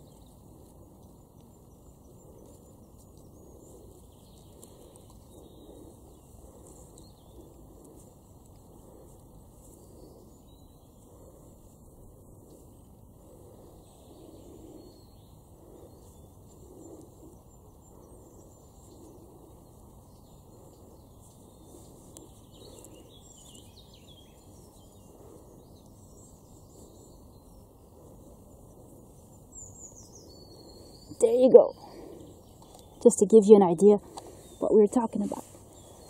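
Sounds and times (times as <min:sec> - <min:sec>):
faint birdsong: 0:00.0 - 0:36.0.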